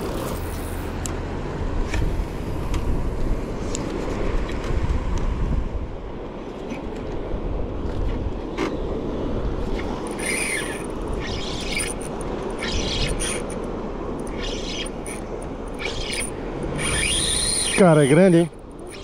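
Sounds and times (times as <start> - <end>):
boat engine rumble: 0.0 - 19.0.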